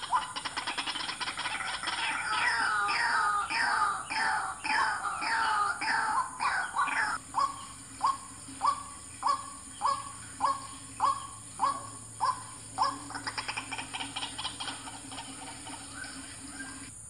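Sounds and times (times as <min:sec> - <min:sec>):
waterhen calling: 0:00.0 - 0:16.9.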